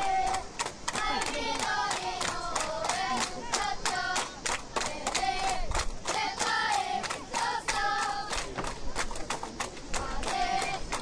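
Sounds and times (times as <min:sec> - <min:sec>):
football crowd chanting: 0:00.0 - 0:08.4, 0:09.9 - 0:11.0
rhythmic clapping: 0:00.0 - 0:11.0.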